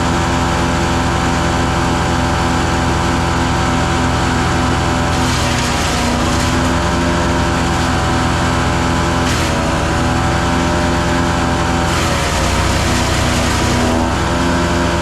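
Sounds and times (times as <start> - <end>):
wood chipper engine running: 0.0 - 15.0.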